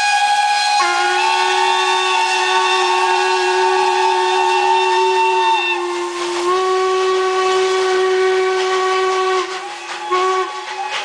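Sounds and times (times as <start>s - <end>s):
steam locomotive whistles blowing: 0.0s - 11.0s.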